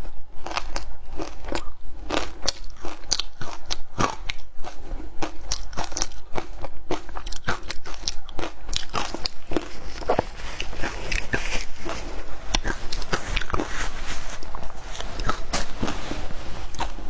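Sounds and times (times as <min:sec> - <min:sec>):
ice being chewed: 0:00.4 - 0:17.0.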